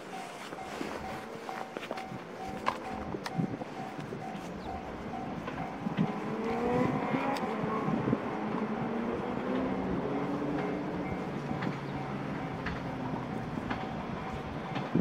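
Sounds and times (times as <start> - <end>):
electric train rumbling by: 0.0 - 15.0
train humming: 0.0 - 15.0.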